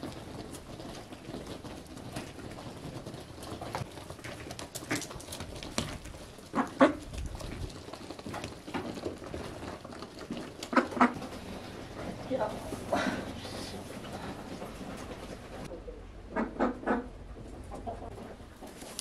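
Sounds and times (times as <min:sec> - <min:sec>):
bills pecking on feed: 0:00.0 - 0:19.0.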